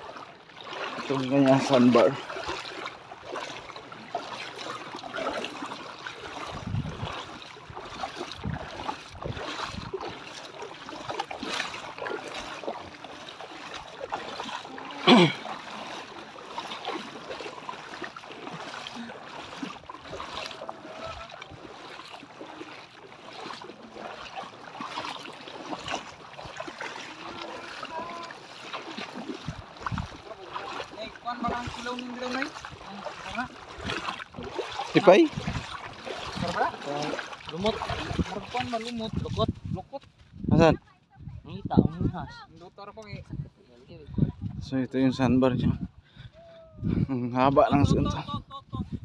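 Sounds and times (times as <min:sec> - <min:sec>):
footsteps wading through water: 0:00.0 - 0:41.5.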